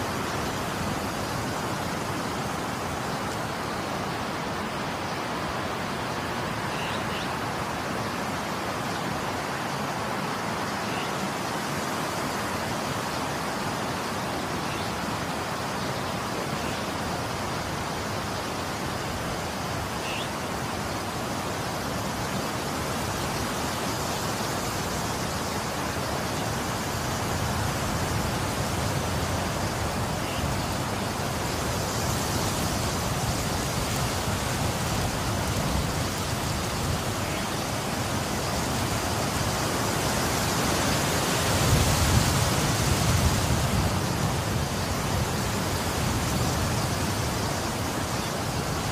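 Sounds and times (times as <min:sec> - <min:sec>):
rain: 0:00.0 - 0:48.9
storm wind: 0:00.0 - 0:48.9.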